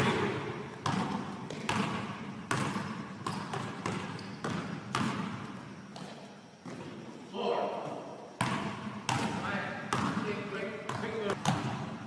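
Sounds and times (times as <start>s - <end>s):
basketball bouncing on gym floor: 0.0s - 7.1s, 7.8s - 12.0s.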